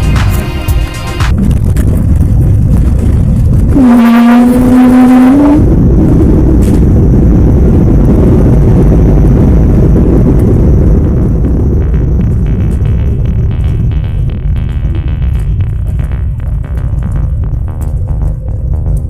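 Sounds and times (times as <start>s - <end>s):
airliner engines rumbling: 0.0s - 19.0s
steady pitched tone: 0.0s - 19.0s.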